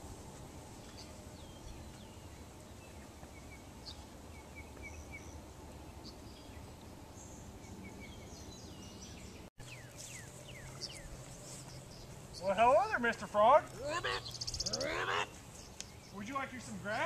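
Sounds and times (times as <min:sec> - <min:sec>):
birds chirping: 0:00.6 - 0:17.0.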